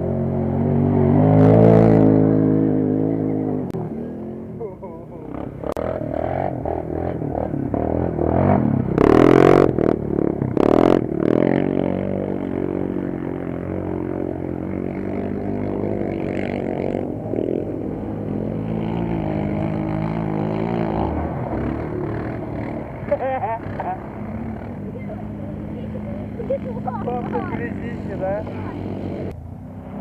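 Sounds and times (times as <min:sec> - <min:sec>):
quad bike engines revving: 0:00.0 - 0:30.0.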